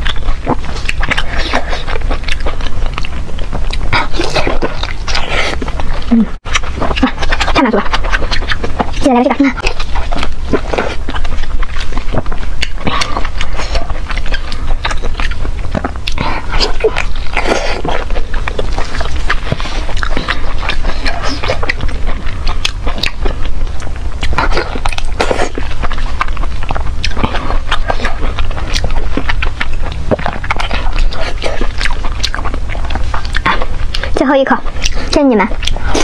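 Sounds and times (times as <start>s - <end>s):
steady low hum: 0.0s - 36.0s
wet sticky chewing: 0.0s - 36.0s.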